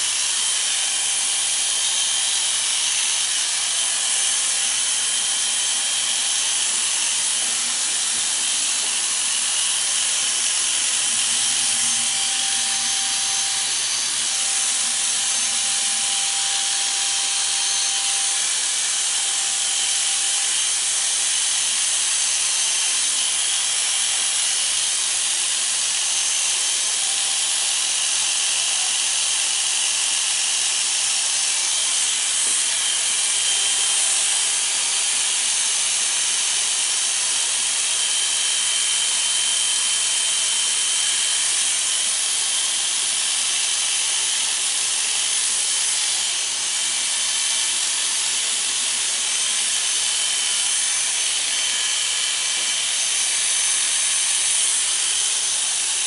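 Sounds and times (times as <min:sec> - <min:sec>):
electric hair clippers cutting hair: 0:00.0 - 0:56.0.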